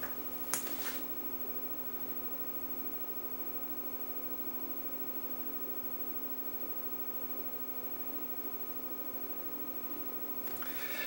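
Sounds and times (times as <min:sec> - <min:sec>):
mains hum: 0:00.0 - 0:11.0.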